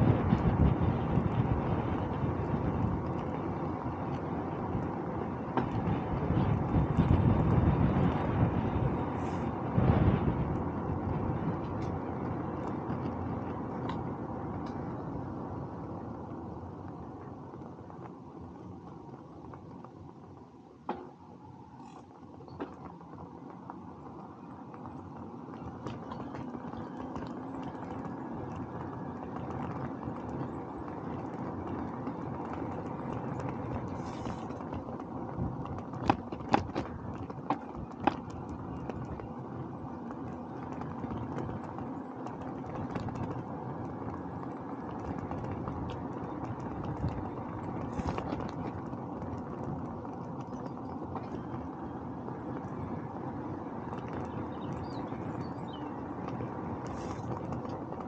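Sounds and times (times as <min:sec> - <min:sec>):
bicycle rolling on road: 0:00.0 - 0:58.0.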